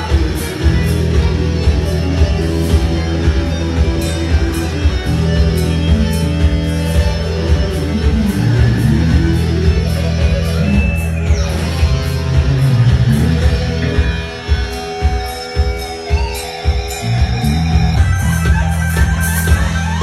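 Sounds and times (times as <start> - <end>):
bass: 0.0 - 20.0
electric guitar music: 0.0 - 20.0
steady drum beat: 0.0 - 20.0.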